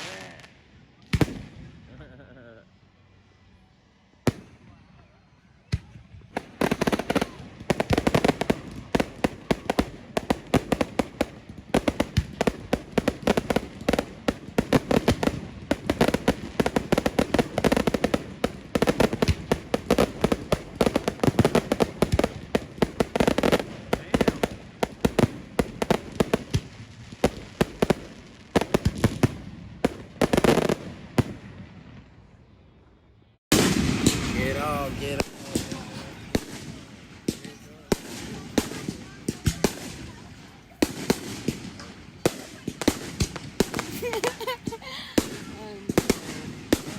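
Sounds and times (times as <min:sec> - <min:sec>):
fireworks popping and banging: 0:05.7 - 0:32.0, 0:33.5 - 0:46.9.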